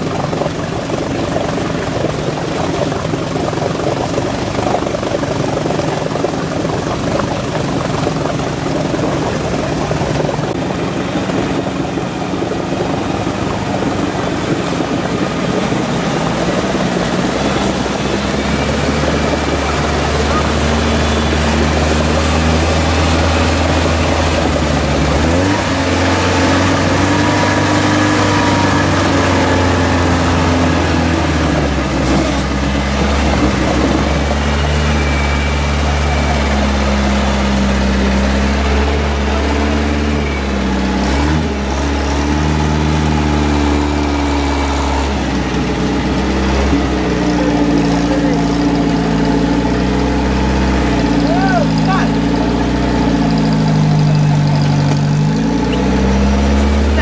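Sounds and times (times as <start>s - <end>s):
vehicle engines droning: 0.0s - 57.0s
water churning at wheels: 0.0s - 57.0s.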